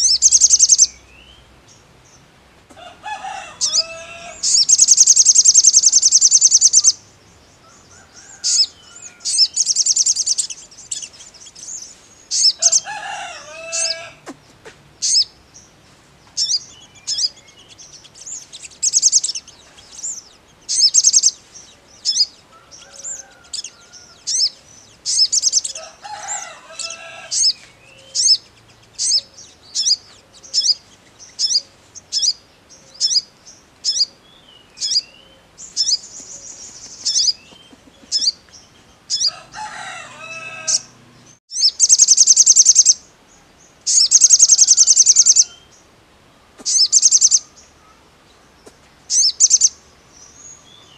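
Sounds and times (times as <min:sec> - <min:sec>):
bird chirping and trilling: 0:00.0 - 0:02.2, 0:03.1 - 0:14.2, 0:15.0 - 0:15.7, 0:16.4 - 0:43.1, 0:43.8 - 0:45.8, 0:46.7 - 0:47.8, 0:49.1 - 0:50.9.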